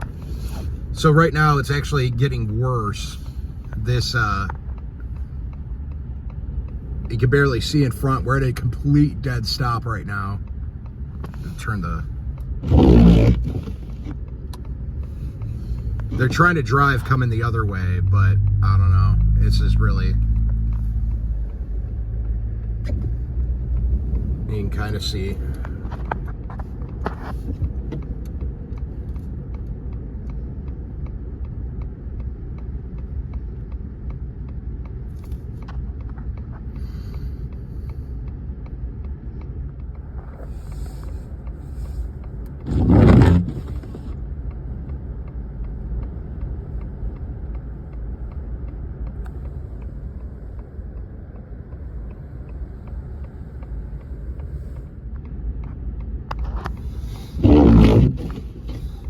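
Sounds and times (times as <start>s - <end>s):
vehicle engine rumble: 0.0s - 59.0s.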